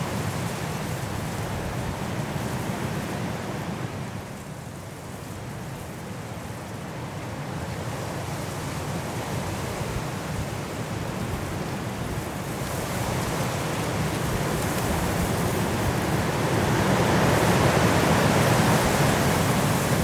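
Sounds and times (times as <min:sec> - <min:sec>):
high wind through trees: 0:00.0 - 0:20.0.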